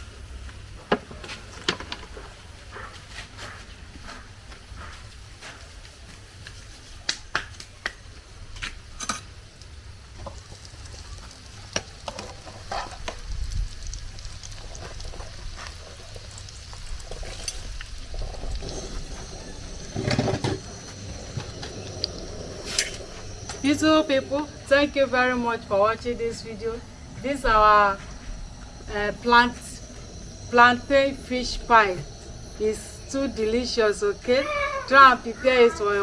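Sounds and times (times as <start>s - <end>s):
frying or stirring noise: 0.0s - 3.5s, 4.7s - 36.0s.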